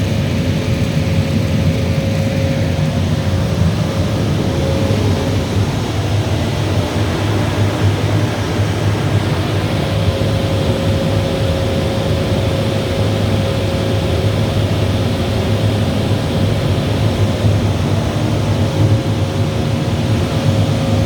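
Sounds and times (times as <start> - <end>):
faint steady whine: 0.0 - 21.0
machinery running with deep hum: 0.0 - 21.0.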